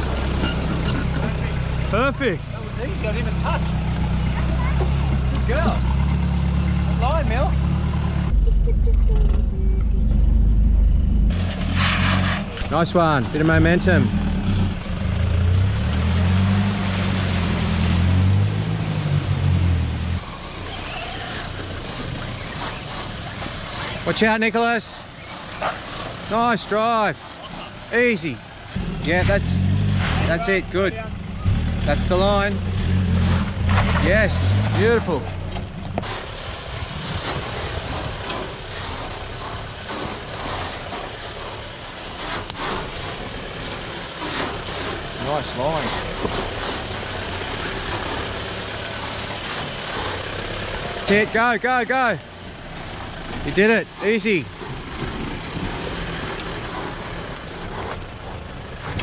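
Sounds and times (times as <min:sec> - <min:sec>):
truck engine running under load: 0:00.0 - 0:59.0.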